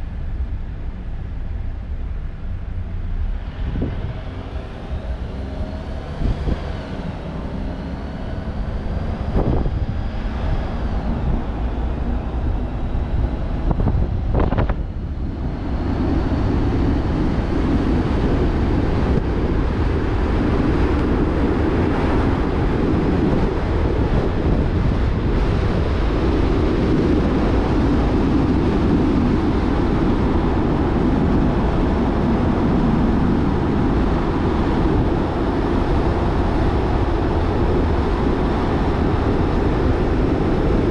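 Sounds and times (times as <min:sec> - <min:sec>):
car engine driving: 0:00.0 - 0:40.9
wind and road noise: 0:00.0 - 0:40.9.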